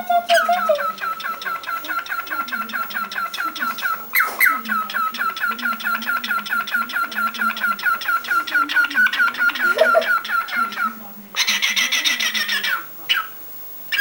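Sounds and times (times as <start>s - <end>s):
cockatiel chirping calls: 0.0s - 14.0s.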